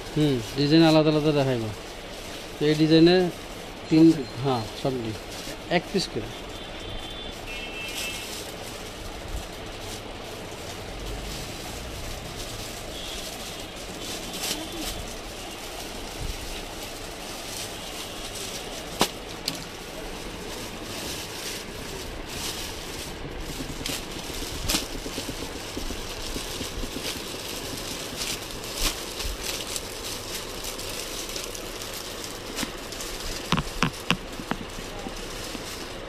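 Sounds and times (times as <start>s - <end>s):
room noise: 0.0s - 36.0s.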